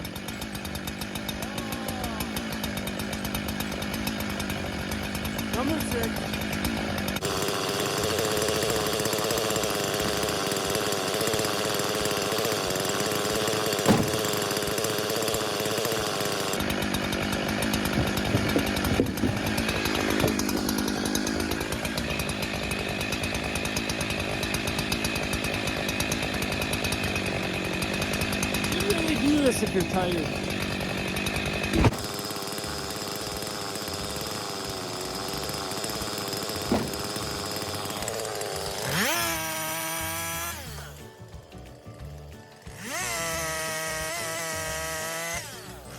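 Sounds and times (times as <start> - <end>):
chainsaw engine running: 0.0 - 45.9.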